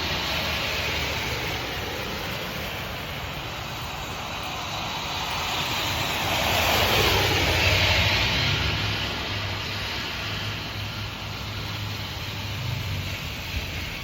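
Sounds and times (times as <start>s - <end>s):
passing vehicle rushing: 0.0s - 14.0s.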